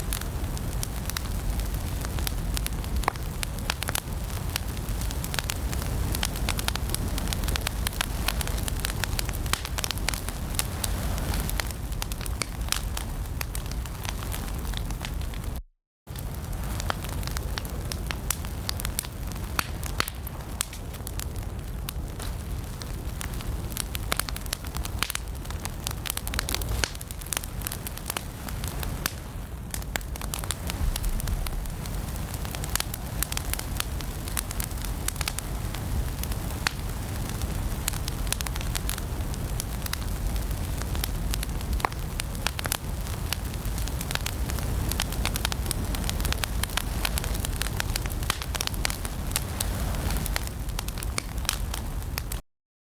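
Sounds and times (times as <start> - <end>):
fire crackling and popping: 0.0 - 52.4.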